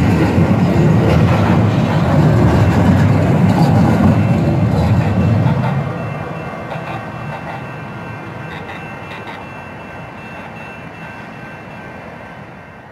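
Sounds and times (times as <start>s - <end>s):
train rumble: 0.0s - 12.9s.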